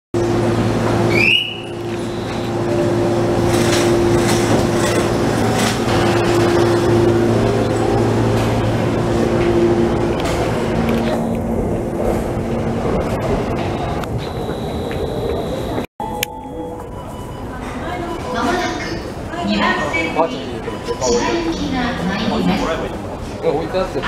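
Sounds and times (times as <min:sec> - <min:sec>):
train electrical hum: 0:00.2 - 0:24.0.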